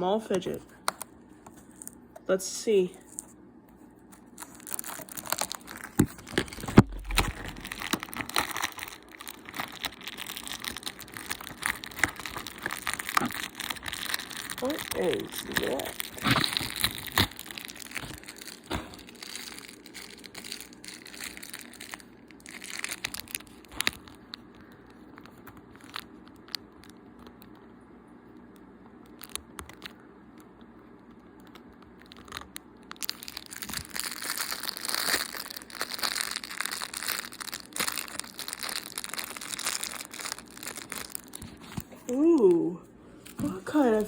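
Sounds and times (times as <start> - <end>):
plastic bag crinkling: 0.3 - 27.5, 31.4 - 44.0.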